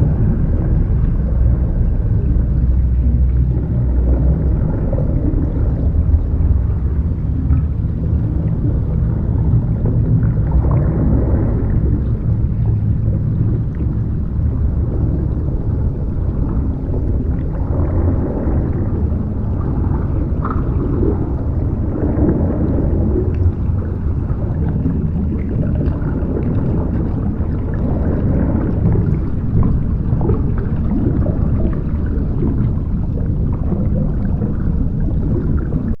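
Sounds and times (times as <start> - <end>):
muffled water gurgling: 0.0 - 36.0
underwater rumble: 0.0 - 36.0
faint underwater clicks: 0.5 - 36.0.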